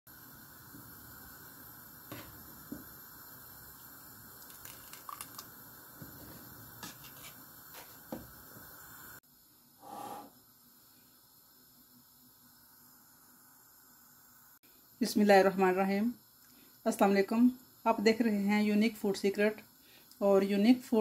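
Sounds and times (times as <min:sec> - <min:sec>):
steady hiss: 0:00.1 - 0:21.0.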